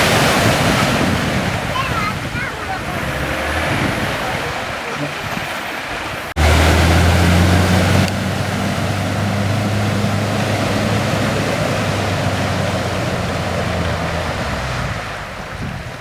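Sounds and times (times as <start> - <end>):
broad rushing noise: 0.0 - 16.0
engine running at steady revs: 0.0 - 16.0.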